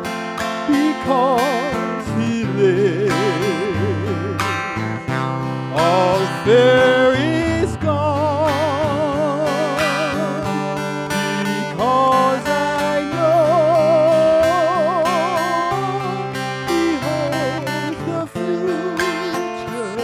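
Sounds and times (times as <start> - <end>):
acoustic guitar: 0.0 - 20.0
person singing a gospel hymn: 0.5 - 20.0.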